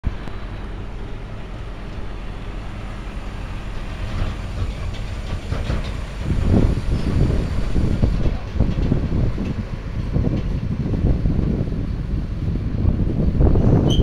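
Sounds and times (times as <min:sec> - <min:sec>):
diesel machinery rumbling: 0:00.0 - 0:14.0.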